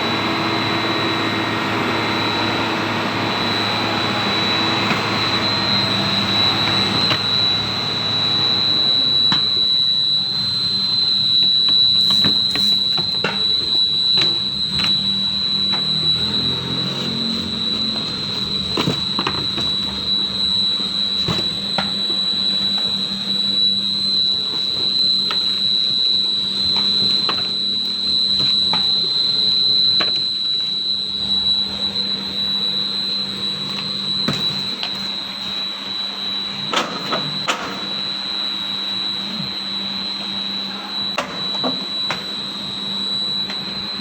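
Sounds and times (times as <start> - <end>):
machine high-pitched whine: 0.0 - 44.0.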